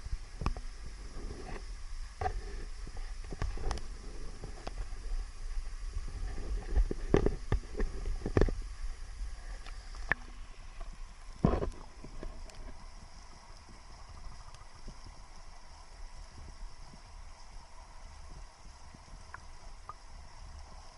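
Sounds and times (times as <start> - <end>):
underwater waterfall rumble: 0.0 - 20.9
water gurgles: 0.0 - 20.9.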